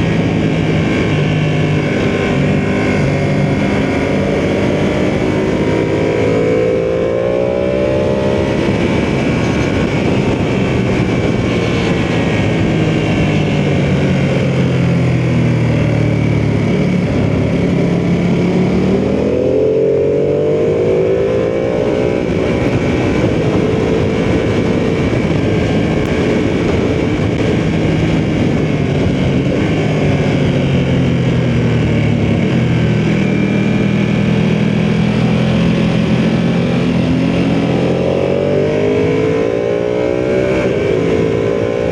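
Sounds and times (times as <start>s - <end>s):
constant rush of noise: 0.0s - 41.9s
motorcycle engine revving: 0.0s - 41.9s.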